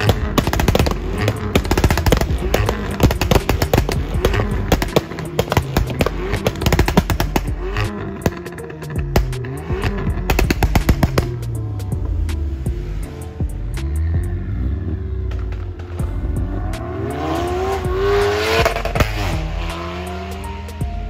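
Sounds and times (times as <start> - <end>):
background music: 0.0 - 21.0
car engine revving: 0.0 - 21.0.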